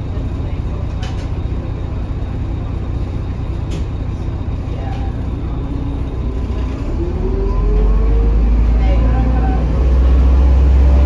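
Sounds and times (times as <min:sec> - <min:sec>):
bus cabin engine rumble: 0:00.0 - 0:11.0.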